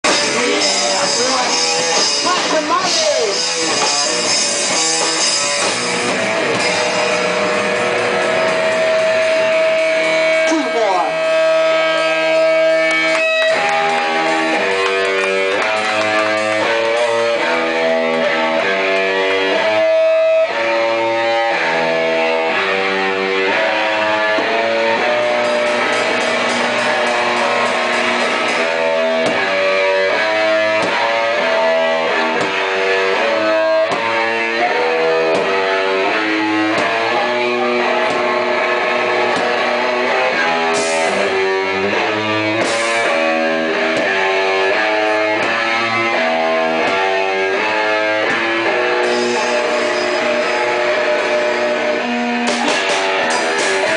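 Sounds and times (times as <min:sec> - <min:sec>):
guitar band playing: 0:00.0 - 0:53.9.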